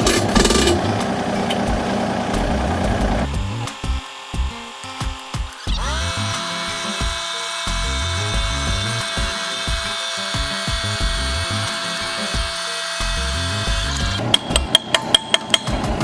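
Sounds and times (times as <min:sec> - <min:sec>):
hydraulic motor whining: 0:00.0 - 0:15.0.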